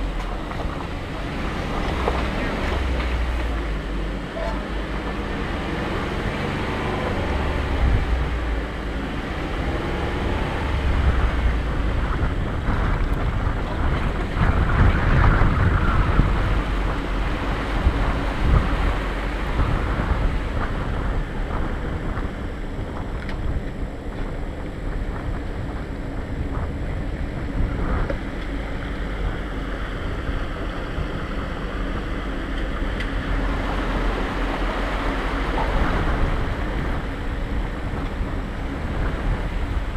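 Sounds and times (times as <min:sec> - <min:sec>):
low engine rumble: 0:00.0 - 0:39.9
wind buffeting microphone: 0:00.0 - 0:39.9.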